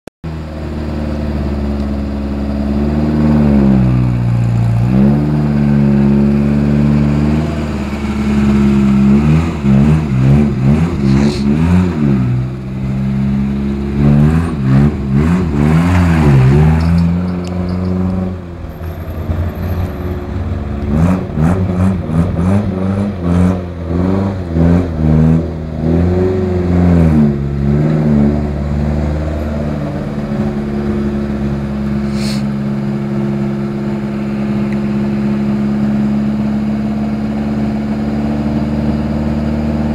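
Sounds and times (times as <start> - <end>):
engine revving: 0.3 - 39.9.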